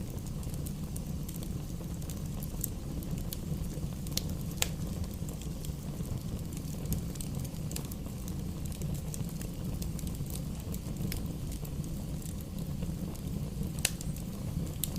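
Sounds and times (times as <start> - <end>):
bonfire low rumble: 0.0 - 14.9
burning wood crackling and popping: 0.0 - 14.9.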